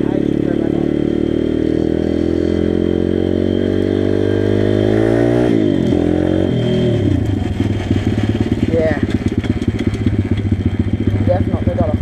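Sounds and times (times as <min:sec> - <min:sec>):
pit bike engine revving: 0:00.0 - 0:12.0.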